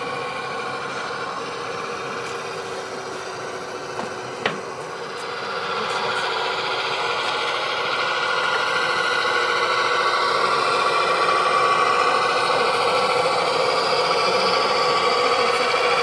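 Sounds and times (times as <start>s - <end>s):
model machinery whine and hum: 0.0s - 16.0s.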